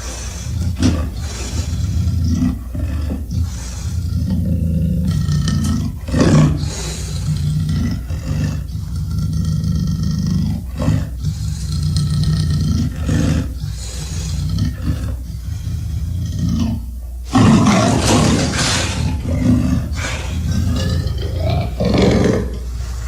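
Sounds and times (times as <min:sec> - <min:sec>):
deep creature roars: 0:00.0 - 0:22.7.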